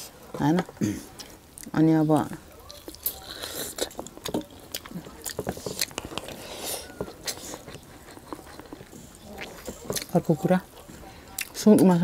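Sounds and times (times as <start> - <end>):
close-miked chewing: 0.0 - 12.0.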